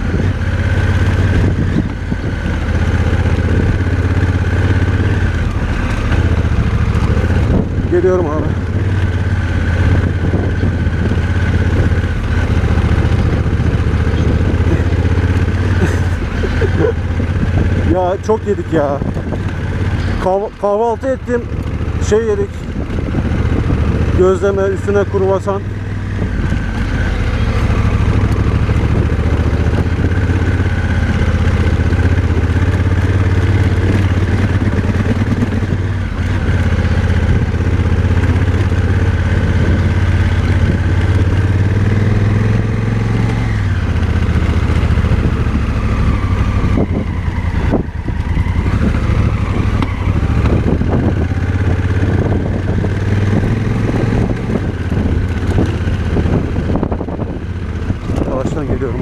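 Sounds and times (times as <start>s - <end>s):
knocks and clatter on rough track: 0.0s - 59.0s
motorcycle engine running: 0.0s - 59.0s.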